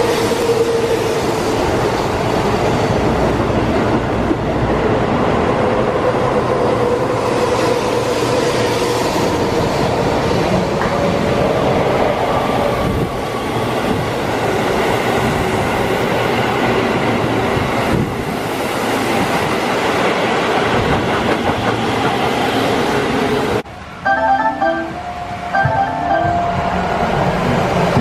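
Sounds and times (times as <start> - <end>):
electric train passing at speed: 0.0 - 28.0
second train on far track: 0.0 - 28.0.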